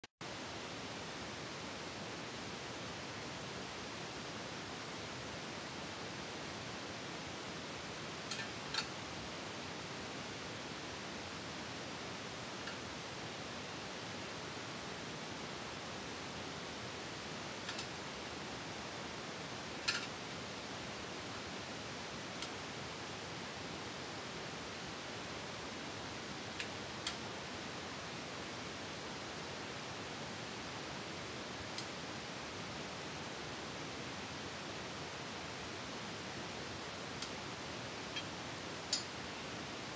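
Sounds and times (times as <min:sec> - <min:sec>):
steady hiss: 0:00.2 - 0:39.9.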